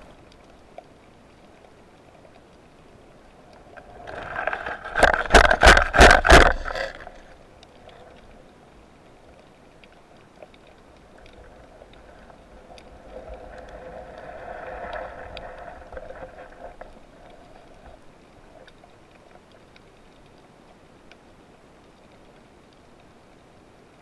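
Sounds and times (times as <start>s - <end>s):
underwater clicks and crackles: 0.0s - 24.0s.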